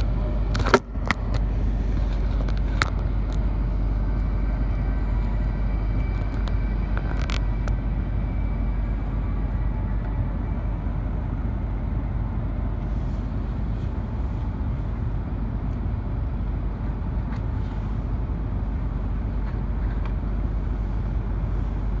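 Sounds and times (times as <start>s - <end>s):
train cabin rumble and hiss: 0.0s - 22.0s.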